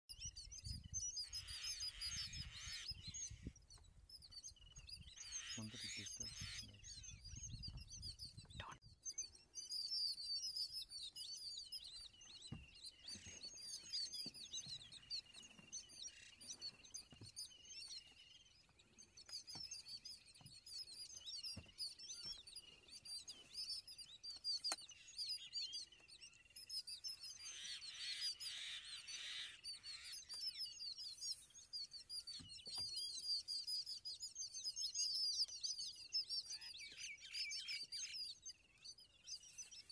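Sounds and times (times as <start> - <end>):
birds chirping and chattering: 0.1 - 39.9.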